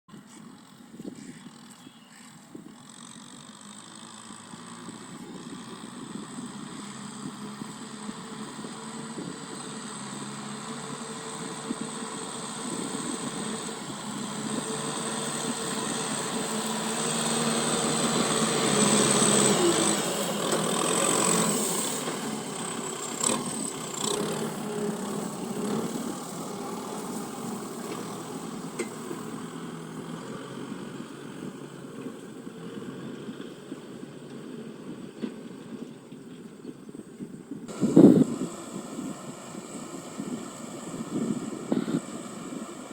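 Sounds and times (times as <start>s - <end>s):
tractor engine droning: 0.1s - 42.9s.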